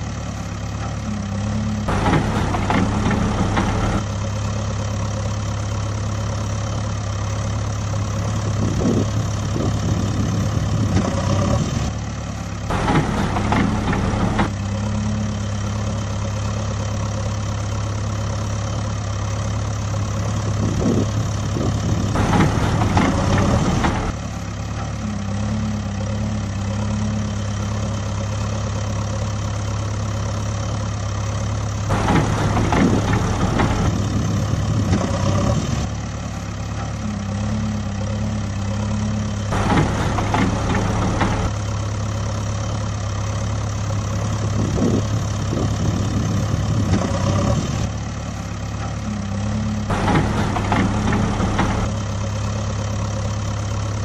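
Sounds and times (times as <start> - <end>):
backhoe engine idling: 0.0 - 54.0.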